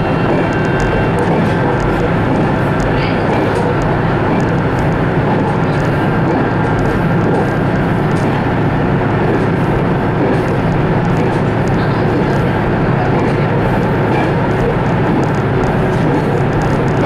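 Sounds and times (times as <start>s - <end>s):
diesel engine drone: 0.0s - 17.0s
wheel and rail noise: 0.0s - 17.0s.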